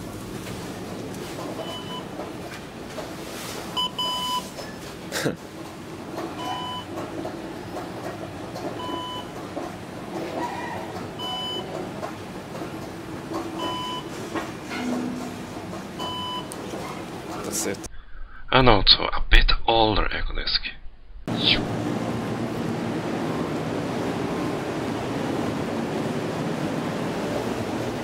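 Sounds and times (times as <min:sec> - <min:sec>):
elevator hum: 0:00.0 - 0:17.9, 0:21.3 - 0:28.0.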